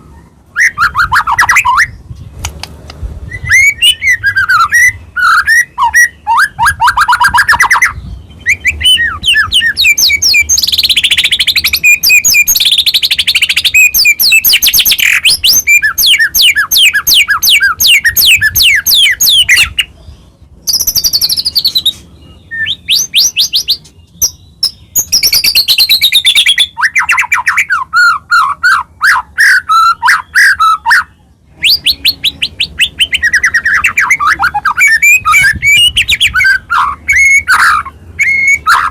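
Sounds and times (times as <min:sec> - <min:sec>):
bird singing trills and whistles: 0:00.0 - 0:02.5, 0:03.2 - 0:38.9.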